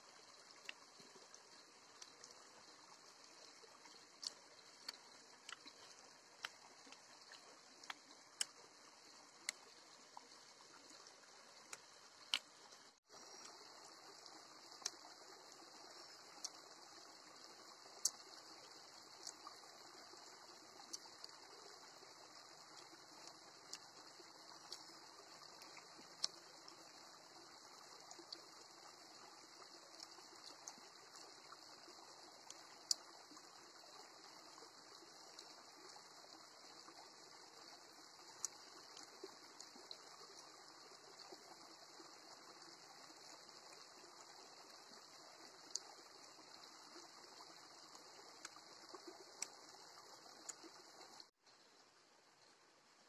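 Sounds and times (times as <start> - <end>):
faint steady hiss: 0.0 - 53.0.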